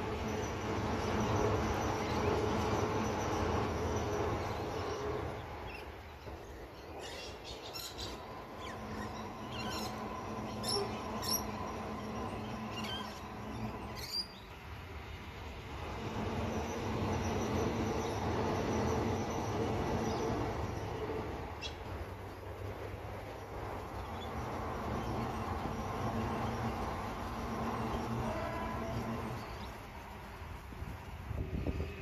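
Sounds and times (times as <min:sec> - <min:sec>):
train rumbling over bridge: 0:00.0 - 0:32.0.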